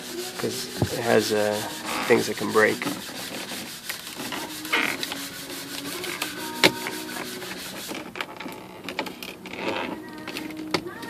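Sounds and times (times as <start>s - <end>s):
plastic trim scraping: 0.0s - 11.0s.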